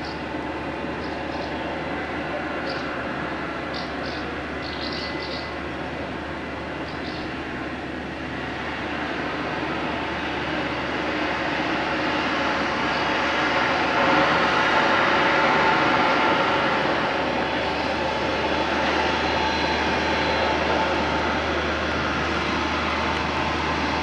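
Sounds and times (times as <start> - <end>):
jet engines rushing and whining: 0.0 - 24.0.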